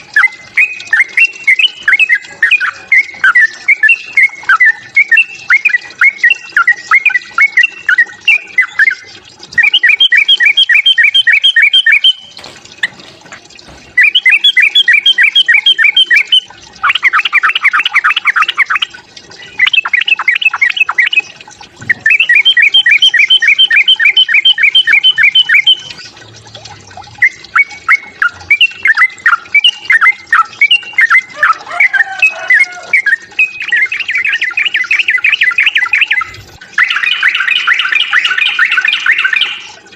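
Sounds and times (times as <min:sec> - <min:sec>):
bird singing bubbly chirping song: 0:00.0 - 0:39.9.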